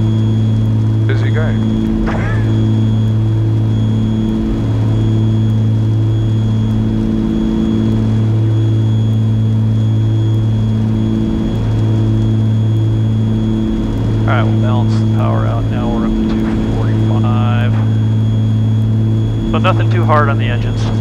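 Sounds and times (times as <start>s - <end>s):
twin piston engines droning: 0.0s - 21.0s.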